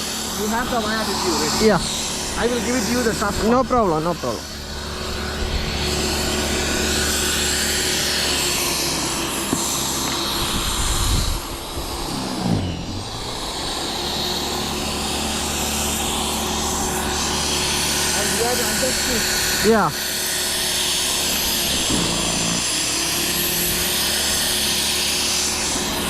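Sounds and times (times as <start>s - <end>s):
electric snow blower running: 0.0s - 26.0s.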